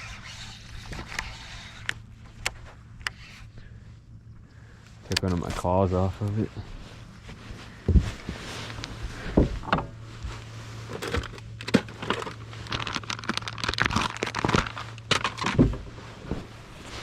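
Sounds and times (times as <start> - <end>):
crinkling handling noise: 0.0 - 17.0
low hum: 0.0 - 17.0.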